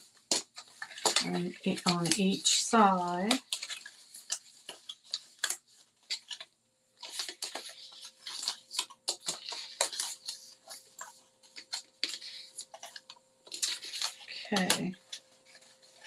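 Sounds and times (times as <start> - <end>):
stiff paper rustling and crackling: 0.0 - 16.0.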